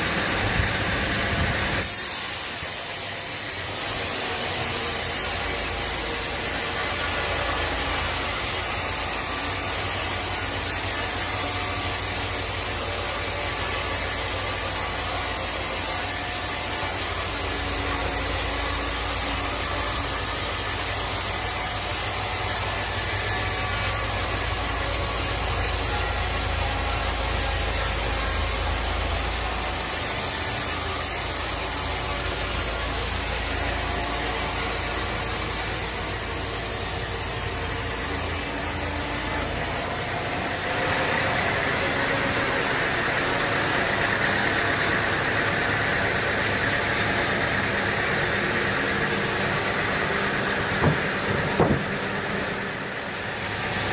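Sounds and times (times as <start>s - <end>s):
sawmill machinery humming: 0.0s - 53.9s.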